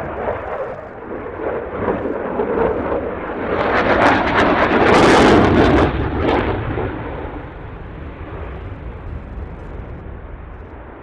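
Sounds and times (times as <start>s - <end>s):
fighter jet roar with crackle: 0.0s - 11.0s.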